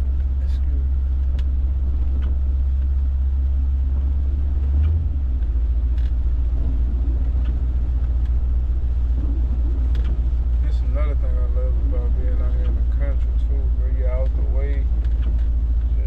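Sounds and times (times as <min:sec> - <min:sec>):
car engine: 0:00.0 - 0:16.0
road rumble: 0:00.0 - 0:16.0.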